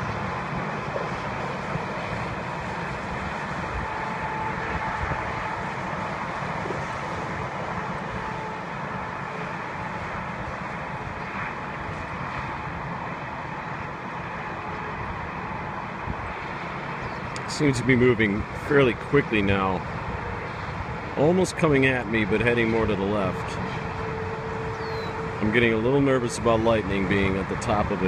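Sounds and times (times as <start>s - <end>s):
highway traffic drone: 0.0s - 28.0s.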